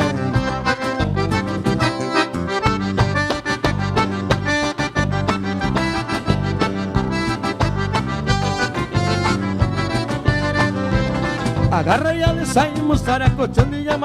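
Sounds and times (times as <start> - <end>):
accordion playing lead: 0.0 - 14.0
guitar: 0.0 - 14.0
steady percussion beat: 2.7 - 14.0.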